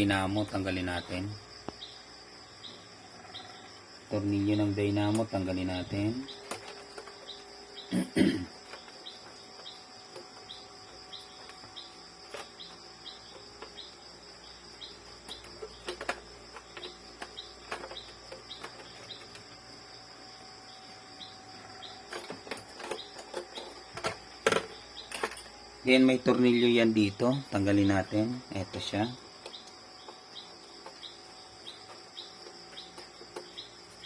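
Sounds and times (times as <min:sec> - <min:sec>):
background chirping: 0:00.0 - 0:34.0.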